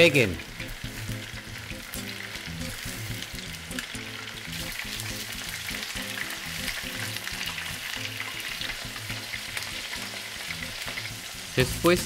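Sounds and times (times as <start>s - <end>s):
light background music: 0.0s - 12.0s
pork deep-frying in oil: 0.0s - 12.0s.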